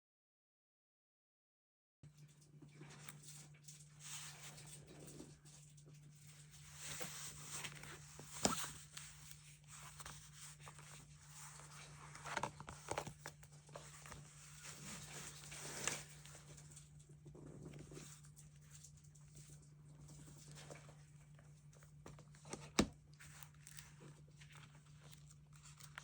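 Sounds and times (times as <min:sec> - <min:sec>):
paper rustling: 0:02.9 - 0:26.0.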